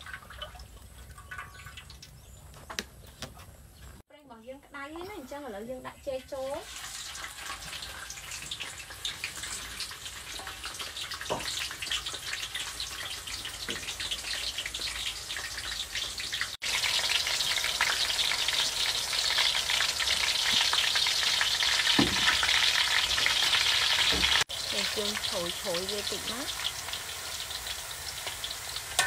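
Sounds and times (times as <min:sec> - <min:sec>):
banana slices deep-frying in oil: 0:05.4 - 0:29.0.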